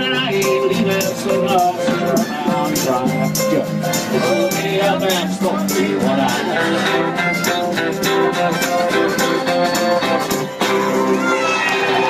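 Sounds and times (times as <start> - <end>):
acoustic guitars strumming: 0.0 - 12.0
live country band playing: 0.0 - 12.0.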